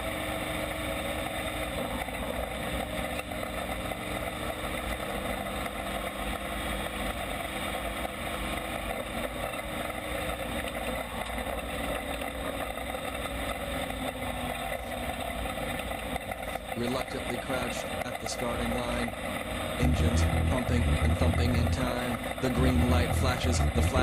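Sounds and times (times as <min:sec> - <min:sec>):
race car engines droning: 0:00.0 - 0:24.0.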